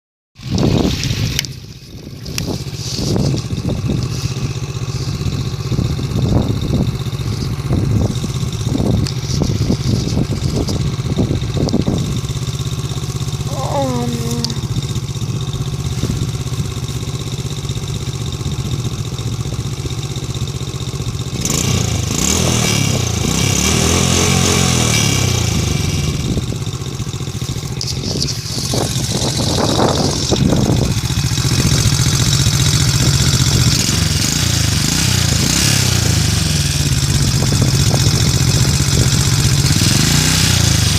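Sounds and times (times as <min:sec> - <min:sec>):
engine exhaust idling and revving: 0:00.4 - 0:40.9.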